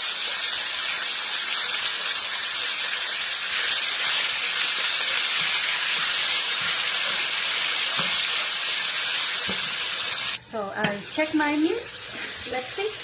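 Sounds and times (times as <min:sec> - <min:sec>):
pork frying in hot oil: 0:00.0 - 0:13.0.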